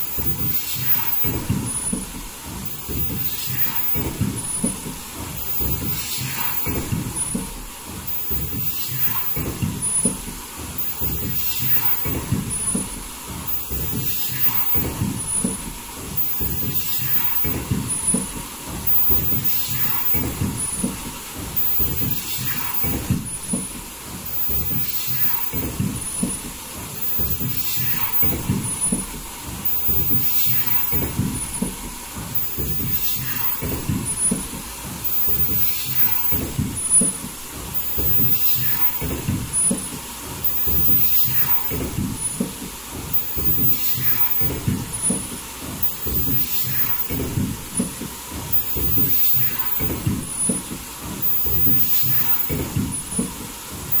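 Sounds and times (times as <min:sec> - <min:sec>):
thin high whine: 0:00.0 - 0:42.5, 0:43.1 - 0:54.0
production line machine hissing: 0:00.0 - 0:54.0.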